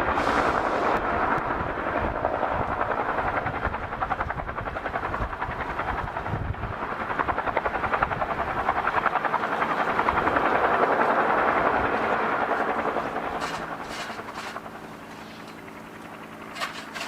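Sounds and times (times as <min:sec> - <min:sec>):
aircraft passing with pulsing sound: 0:00.0 - 0:17.0.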